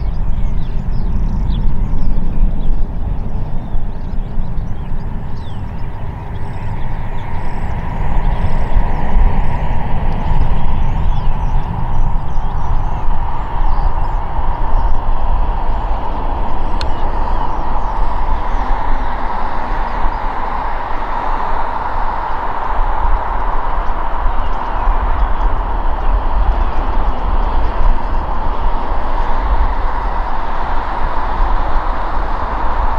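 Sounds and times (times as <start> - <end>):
jet engine noise: 0.0 - 32.9
wind rumble on microphone: 0.0 - 32.9.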